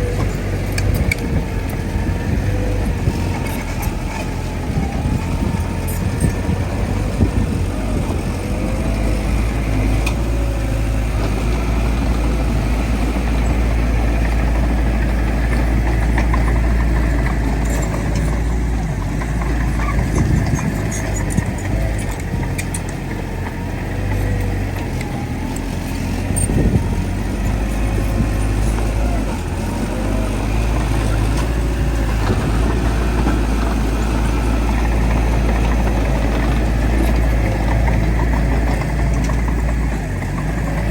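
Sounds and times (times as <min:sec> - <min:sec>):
heavy diesel engine rumbling: 0:00.0 - 0:40.9.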